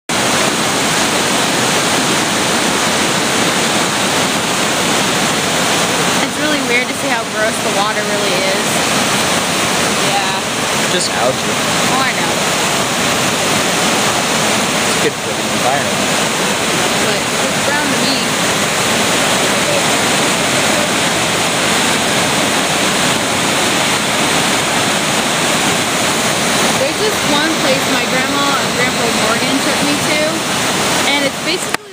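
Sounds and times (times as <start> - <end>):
waterfall rushing: 0.1 - 31.9.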